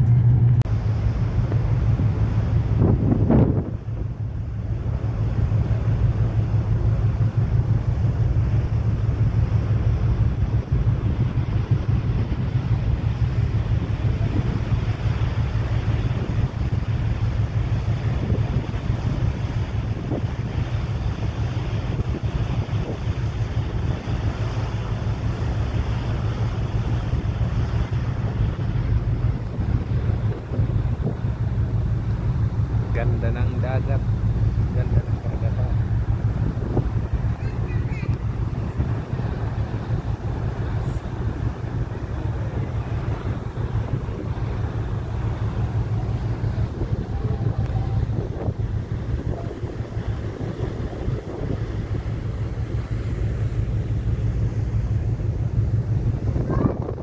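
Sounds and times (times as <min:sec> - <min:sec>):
ship engine rumble: 0:00.0 - 0:57.0
water rushing along hull: 0:00.0 - 0:57.0
wind buffeting microphone: 0:00.0 - 0:57.0.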